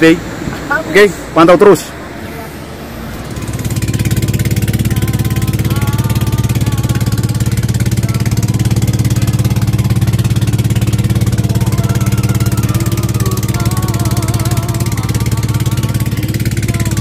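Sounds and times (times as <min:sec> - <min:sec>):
boat engine chugging: 0:02.9 - 0:17.0.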